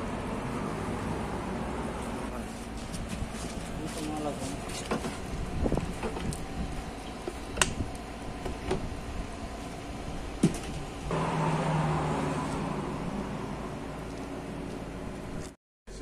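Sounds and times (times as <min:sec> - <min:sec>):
motor humming and hissing: 0:00.0 - 0:15.4.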